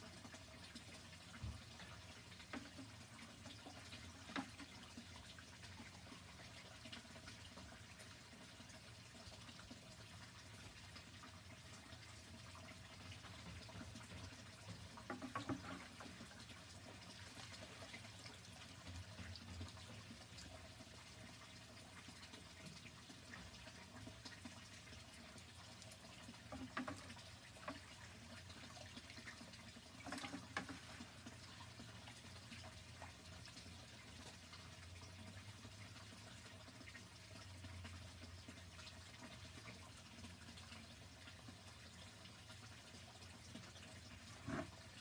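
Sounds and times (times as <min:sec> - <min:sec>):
water trickling and dripping: 0:00.0 - 0:45.0.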